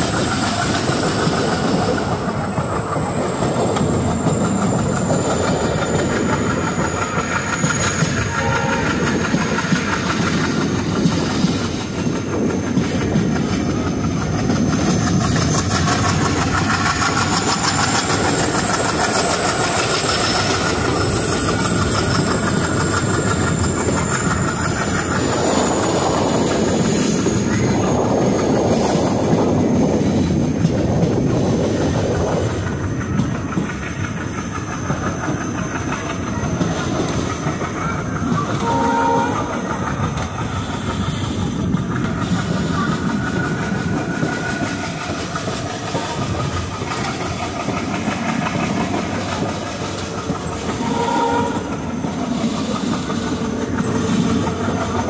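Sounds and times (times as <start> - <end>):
train coaches rumbling: 0.0 - 55.0
wheels clattering over rail joints: 0.0 - 55.0.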